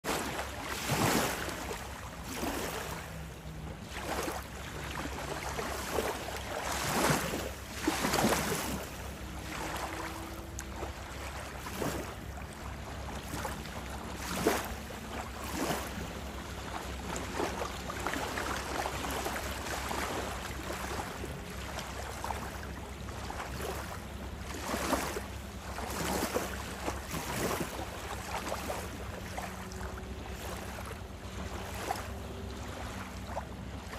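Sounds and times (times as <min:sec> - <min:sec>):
lake waves lapping on shore: 0:00.0 - 0:33.9.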